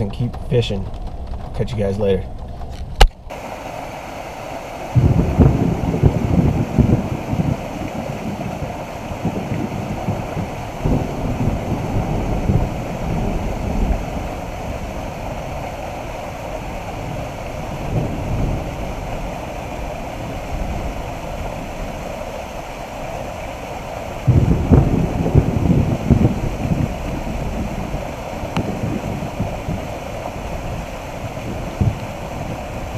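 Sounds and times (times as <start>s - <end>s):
wind buffeting microphone: 0.0s - 32.9s
waterfall rushing and splashing: 3.3s - 32.9s.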